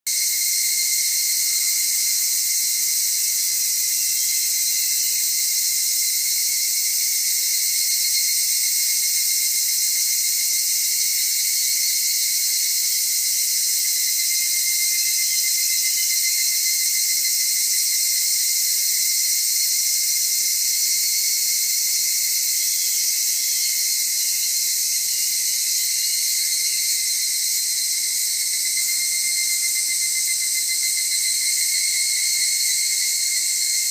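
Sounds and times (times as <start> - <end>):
chorus of evening cicadas: 0.1 - 33.9
warbling cicada calls: 0.1 - 33.9.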